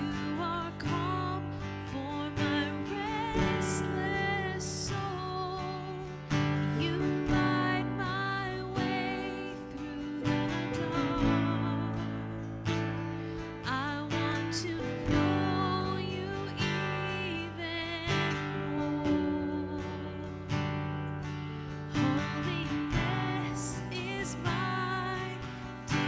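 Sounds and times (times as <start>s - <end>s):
strummed acoustic guitar chords: 0.0s - 26.0s.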